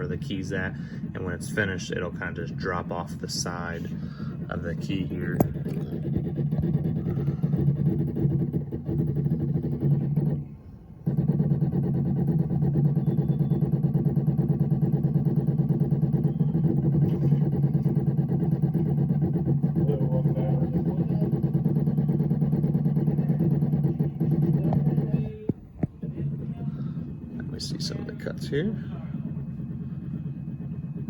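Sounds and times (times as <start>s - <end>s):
fast buzzing pulse of probe: 0.0s - 31.0s
key machine motor humming: 0.0s - 31.0s.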